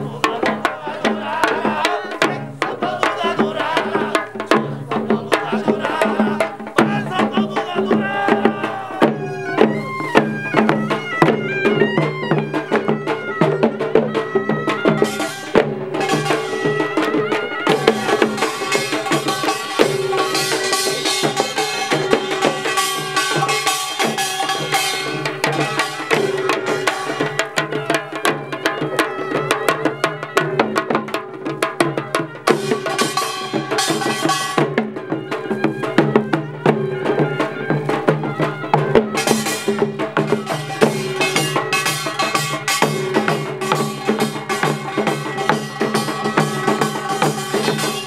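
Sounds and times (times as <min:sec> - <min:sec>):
hand drums beaten fast: 0:00.0 - 0:48.0.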